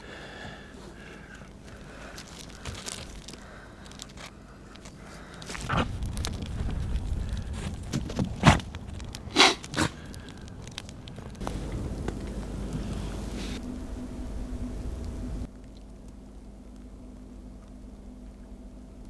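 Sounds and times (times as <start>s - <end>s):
crunching and scraping handling: 0.0s - 15.5s
low rumbling noise: 0.0s - 15.5s.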